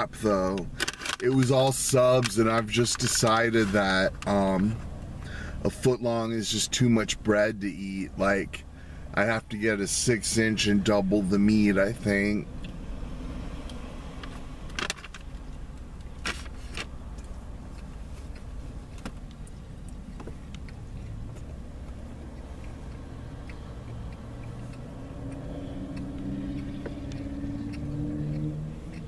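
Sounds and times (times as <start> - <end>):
car rumble inside cabin: 0.0 - 29.0.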